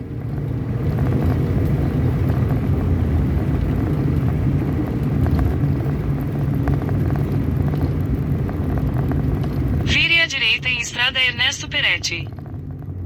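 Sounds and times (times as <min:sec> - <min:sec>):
vehicle engine and road drone: 0:00.0 - 0:13.0.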